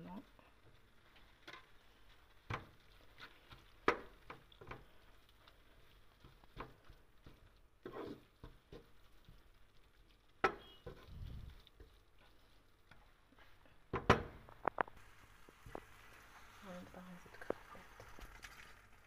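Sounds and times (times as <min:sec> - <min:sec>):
wooden spatula scraping frying pan: 0:00.7 - 0:09.6, 0:10.4 - 0:13.6, 0:15.0 - 0:19.0.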